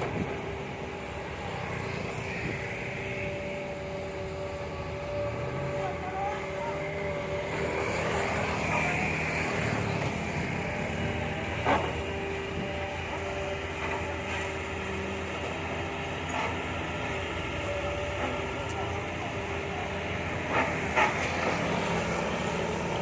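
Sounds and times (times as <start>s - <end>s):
excavator engine and hydraulics whine: 0.0s - 23.0s.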